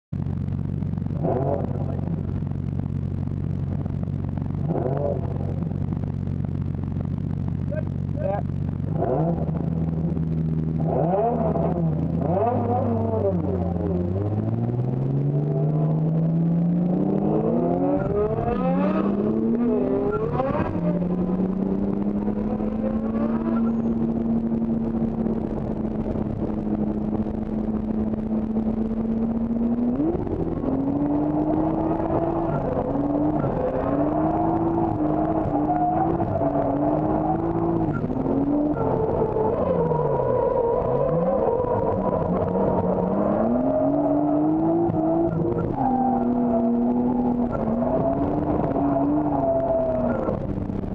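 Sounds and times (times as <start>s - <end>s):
car engine revving: 0.1s - 50.9s.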